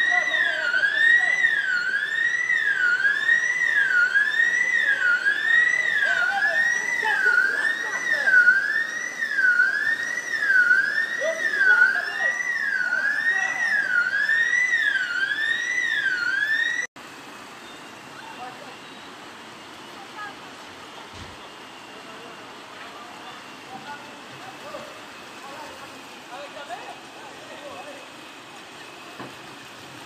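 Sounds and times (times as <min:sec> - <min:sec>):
emergency vehicle siren wailing: 0:00.0 - 0:16.9, 0:17.5 - 0:30.0.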